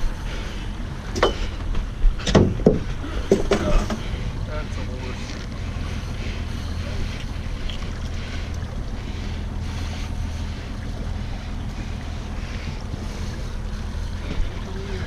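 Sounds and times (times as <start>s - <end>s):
outboard motor droning: 0.0s - 15.0s
water washing against hull: 0.0s - 15.0s.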